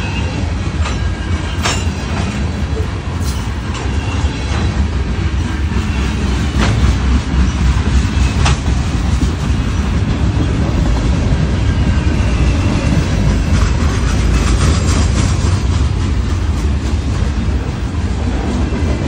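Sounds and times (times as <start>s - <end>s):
freight train rumbling past: 0.0s - 19.0s
wheels clacking over rail joints: 0.7s - 19.0s.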